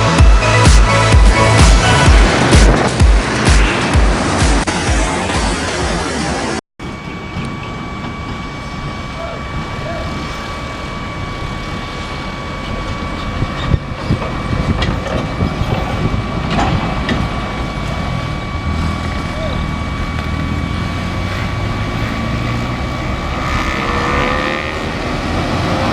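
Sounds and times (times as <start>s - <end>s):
constant high-pitched tone: 0.0s - 25.9s
trucks and buses passing: 0.0s - 25.9s.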